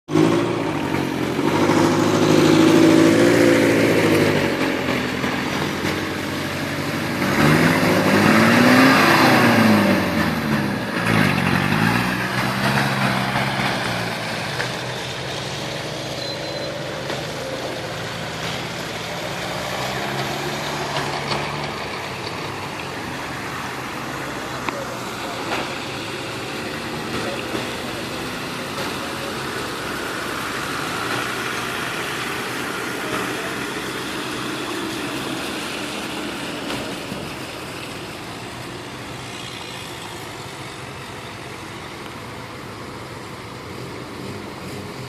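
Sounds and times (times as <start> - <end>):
car engine running: 0.0 - 45.0.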